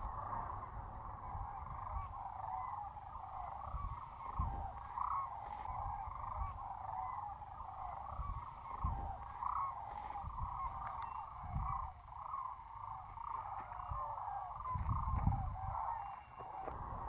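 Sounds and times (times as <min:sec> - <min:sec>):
cranes calling: 0:00.0 - 0:17.0.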